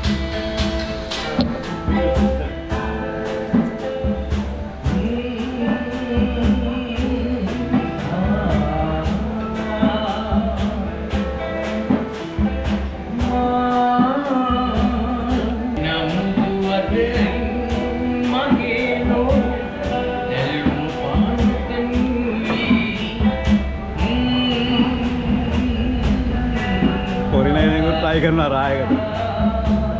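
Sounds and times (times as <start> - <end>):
acoustic guitar: 0.0 - 29.9
hand drum beat: 0.0 - 29.9
man singing: 4.8 - 29.9.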